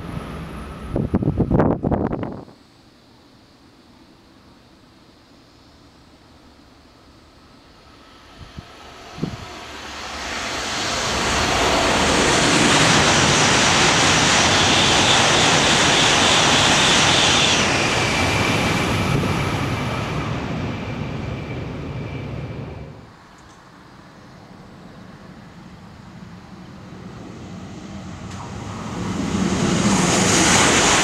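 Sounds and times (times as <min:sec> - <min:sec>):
high-speed train rushing past: 0:00.0 - 0:02.5, 0:06.4 - 0:31.0.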